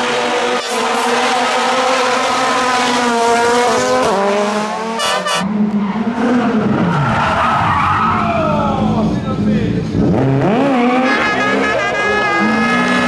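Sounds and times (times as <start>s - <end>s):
rally car engines revving: 0.0s - 13.0s.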